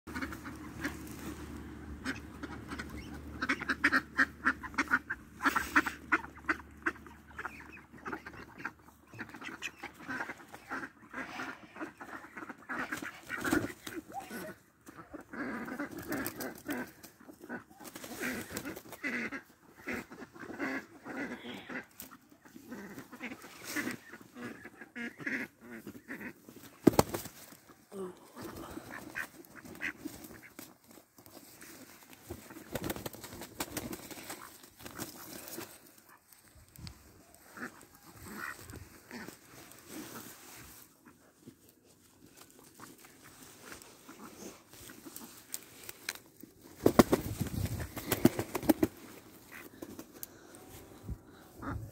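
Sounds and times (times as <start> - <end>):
ducks quacking harshly: 0.1 - 41.3, 42.6 - 45.8, 46.8 - 50.4, 51.2 - 51.9
birds scuffling and wing-beats: 0.1 - 51.9.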